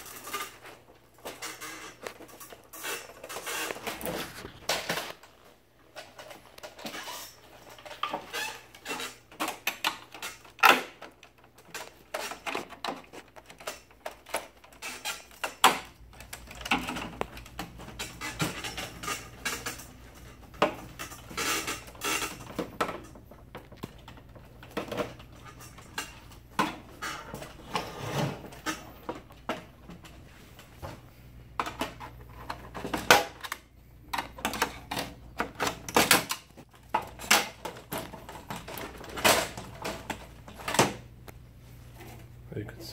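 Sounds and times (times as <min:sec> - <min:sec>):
plastic covers clicking and knocking: 0:00.0 - 0:27.6, 0:30.8 - 0:41.2.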